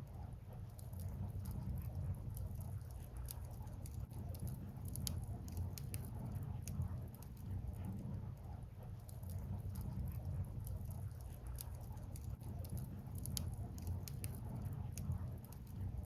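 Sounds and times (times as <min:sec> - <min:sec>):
firewood crackling and popping: 0:00.7 - 0:07.6, 0:09.1 - 0:16.0.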